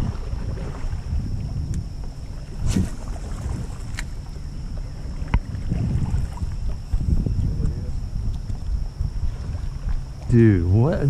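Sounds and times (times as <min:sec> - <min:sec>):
faint high whine: 0:00.0 - 0:11.0
wind rumbling on microphone: 0:00.0 - 0:11.0.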